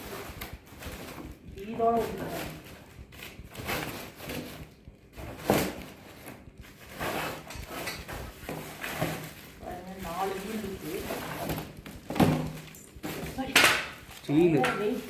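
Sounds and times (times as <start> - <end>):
packaging rustling and scraping: 0.0 - 15.0.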